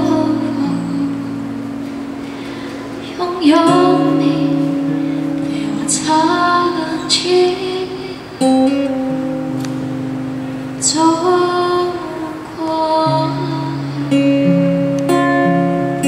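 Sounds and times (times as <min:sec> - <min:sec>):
woman singing: 0:00.0 - 0:01.8, 0:03.0 - 0:09.1, 0:10.8 - 0:15.9
acoustic guitar chords: 0:00.0 - 0:16.0.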